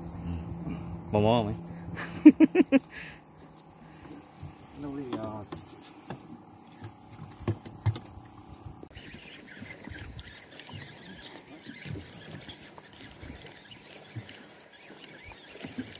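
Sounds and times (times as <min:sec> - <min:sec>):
insects droning: 0:00.0 - 0:15.9.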